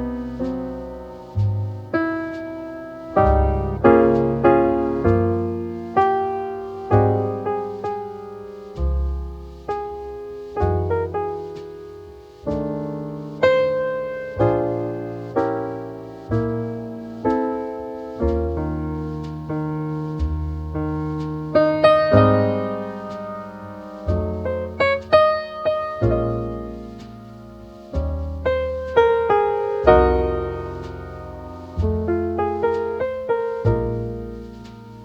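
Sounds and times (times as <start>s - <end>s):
jazz piano chords: 0.0s - 35.0s.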